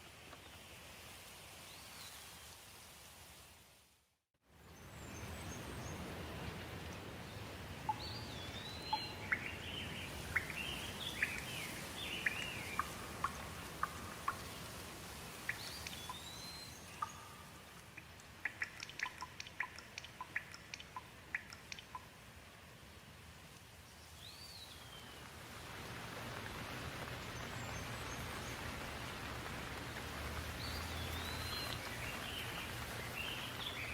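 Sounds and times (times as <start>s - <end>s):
steady rain hiss: 0.0s - 33.9s.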